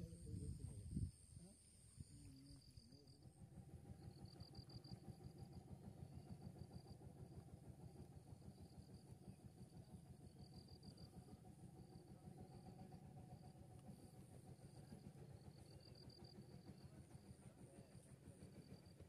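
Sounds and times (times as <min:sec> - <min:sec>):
faint high insect trills: 0:00.0 - 0:19.0
faint low outdoor rumble: 0:00.0 - 0:19.0.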